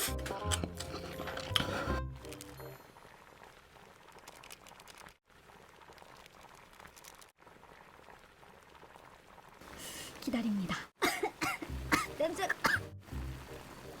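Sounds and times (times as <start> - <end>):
liquid boiling: 0.1 - 14.0.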